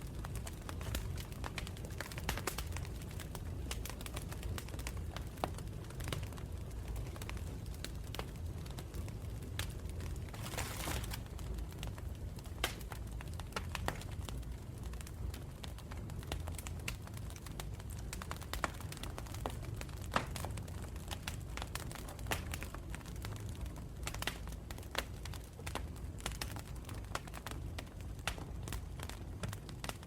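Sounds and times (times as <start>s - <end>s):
campfire popping and crackling: 0.0s - 30.0s
low rumble of flames: 0.0s - 30.0s.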